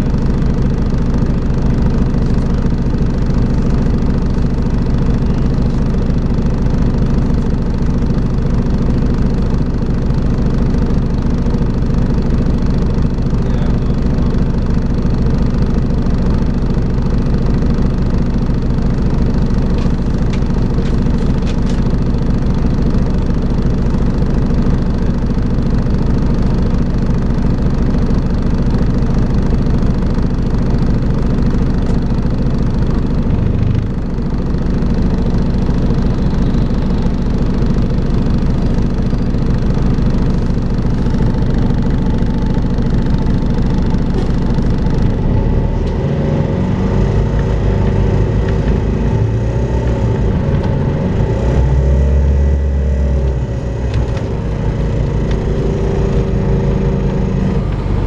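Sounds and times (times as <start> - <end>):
bus running with whine: 0.0 - 58.0.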